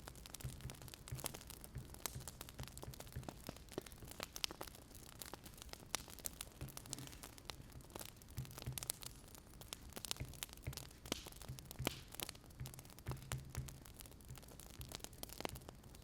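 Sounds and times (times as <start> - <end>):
sharp pops and snaps: 0.0 - 16.0
wood fire crackling: 0.0 - 16.0.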